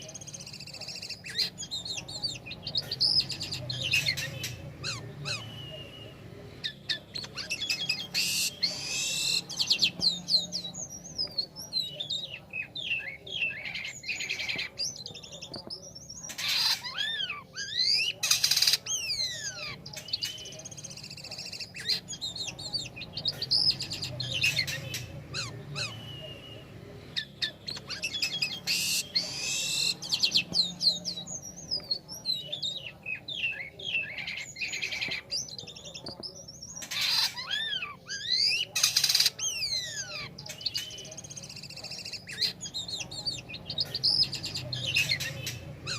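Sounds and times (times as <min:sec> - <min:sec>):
starling singing: 0:00.0 - 0:45.9.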